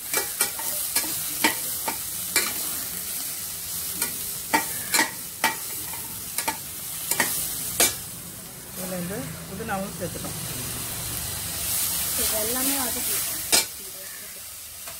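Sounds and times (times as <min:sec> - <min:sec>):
vegetables sizzling in pot: 0:00.0 - 0:14.9.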